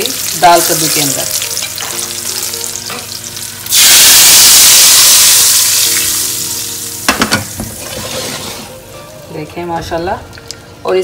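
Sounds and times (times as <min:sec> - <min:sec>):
hot oil sizzling in pot: 0:00.0 - 0:08.9.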